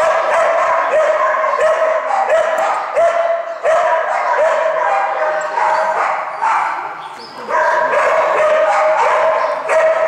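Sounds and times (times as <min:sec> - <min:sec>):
dog barking in high yelps: 0:00.0 - 0:10.0.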